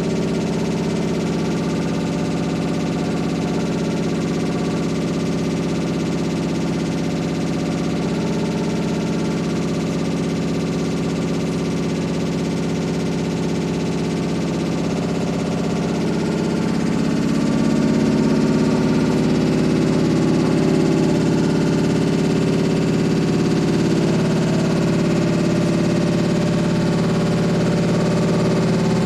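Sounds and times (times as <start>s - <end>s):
washing machine droning: 0.0s - 29.0s.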